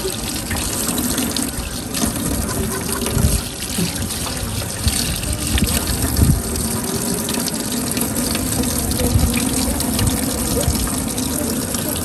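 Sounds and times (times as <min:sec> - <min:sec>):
tap water running into metal sink: 0:00.0 - 0:12.0.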